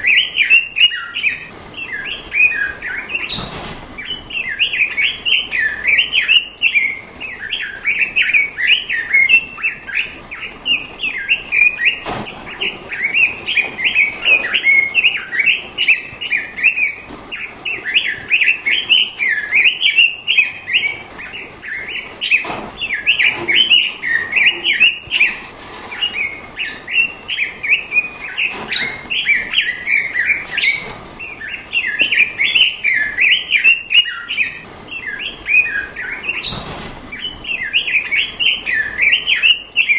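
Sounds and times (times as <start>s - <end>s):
songbird warbling: 0.0s - 39.9s.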